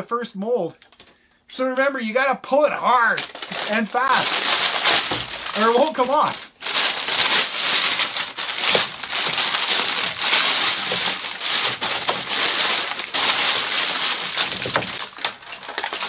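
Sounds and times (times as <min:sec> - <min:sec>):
plastic film crinkling and tearing: 0:03.1 - 0:16.0.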